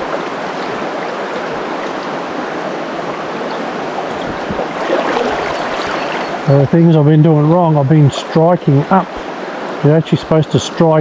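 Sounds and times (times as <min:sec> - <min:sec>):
mountain stream flowing: 0:00.0 - 0:11.0.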